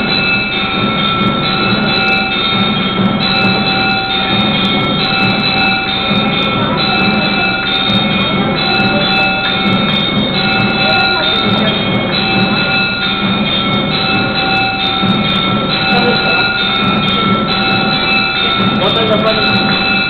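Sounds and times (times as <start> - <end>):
percussion: 0.0 - 20.0
temple bells clanging: 0.0 - 20.0.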